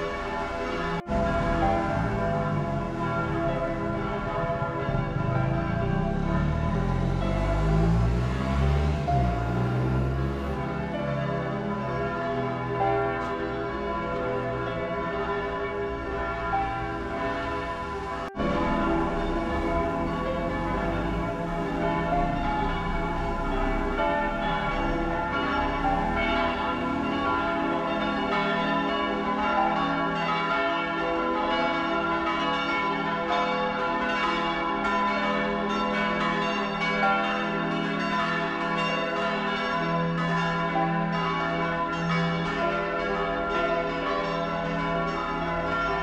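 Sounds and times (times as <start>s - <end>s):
bells ringing in a peal: 0.0s - 46.0s.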